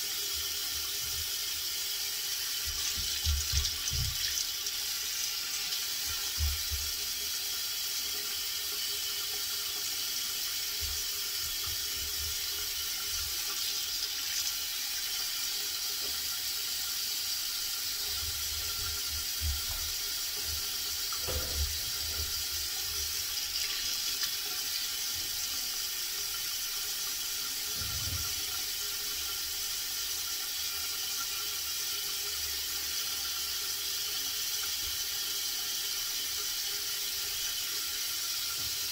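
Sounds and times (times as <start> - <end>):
water running from tap: 0.0 - 38.9.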